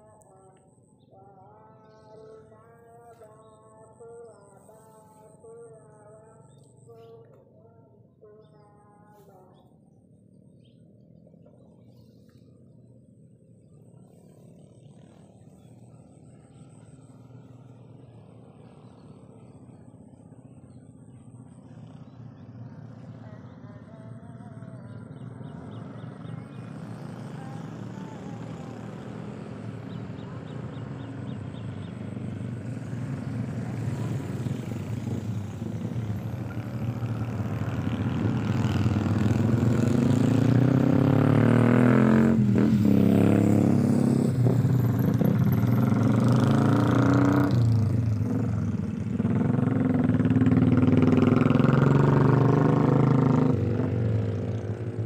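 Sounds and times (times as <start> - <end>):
vehicle engine running: 8.4 - 55.0.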